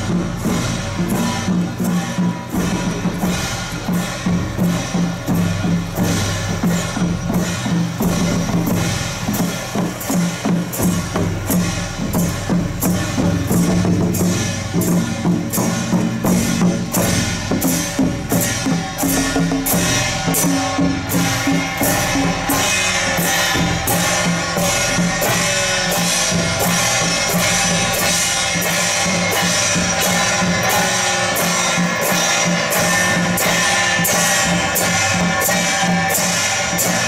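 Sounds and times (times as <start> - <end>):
hand cymbals clashing: 0.0 - 37.0
large drums beating: 0.0 - 37.0.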